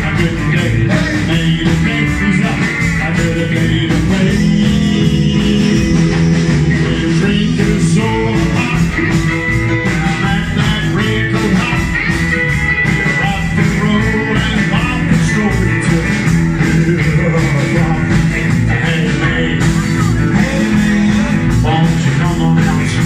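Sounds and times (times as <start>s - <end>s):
rock and roll band playing: 0.0s - 23.0s.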